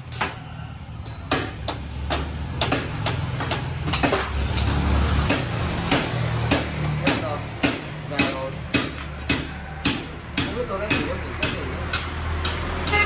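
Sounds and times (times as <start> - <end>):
sharp tapping knocks: 1.3 - 13.0.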